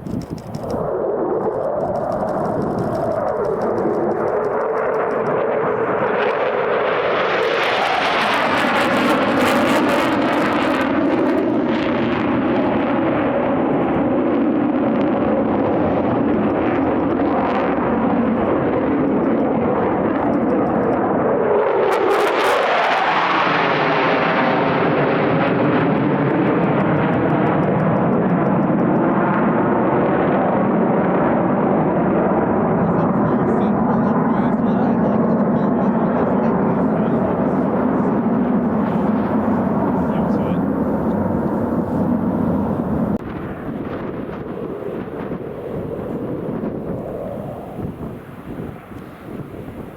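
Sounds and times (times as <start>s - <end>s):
jet engines roaring low: 0.0s - 49.9s
jet passing with falling pitch: 0.0s - 49.9s.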